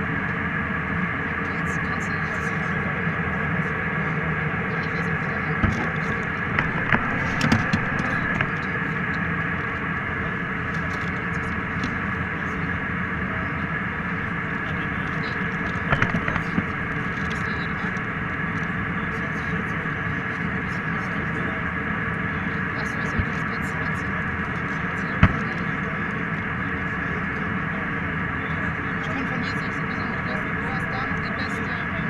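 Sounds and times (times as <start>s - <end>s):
airliner cabin noise: 0.0s - 32.0s.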